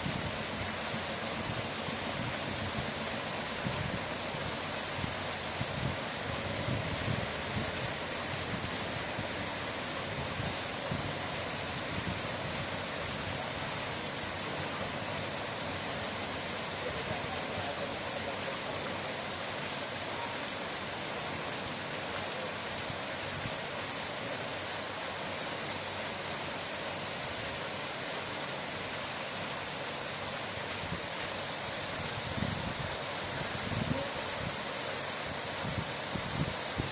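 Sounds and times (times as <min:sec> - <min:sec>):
running water rushing: 0:00.0 - 0:36.9.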